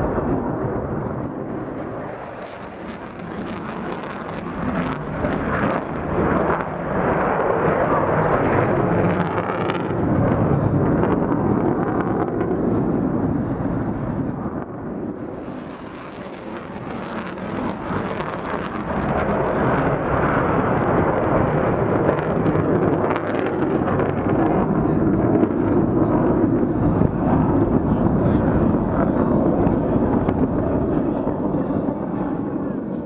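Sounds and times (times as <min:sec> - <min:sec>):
jet engines in afterburner: 0:00.0 - 0:33.0.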